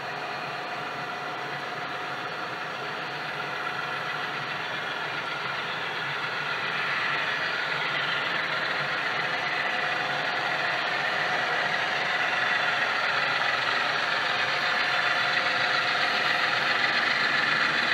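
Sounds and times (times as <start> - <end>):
model locomotive diesel engine: 0.0 - 17.9.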